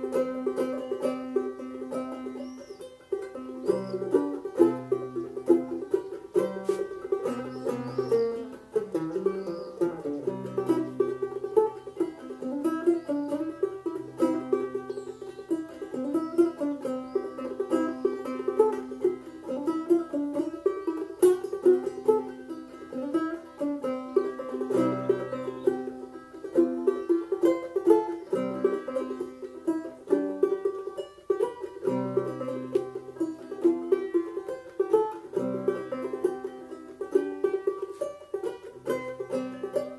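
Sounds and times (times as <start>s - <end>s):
banjo playing: 0.0s - 39.9s.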